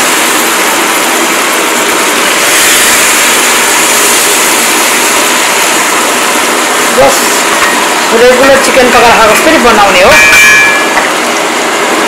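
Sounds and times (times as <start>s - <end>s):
electric fan rushing: 0.0s - 12.0s.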